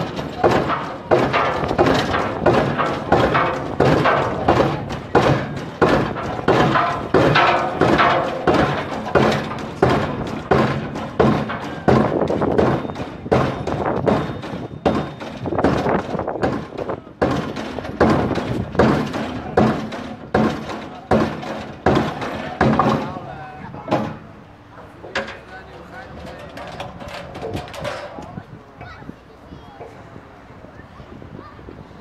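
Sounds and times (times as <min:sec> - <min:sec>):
pile-driving hammer striking pile: 0:00.0 - 0:24.4, 0:25.0 - 0:28.4.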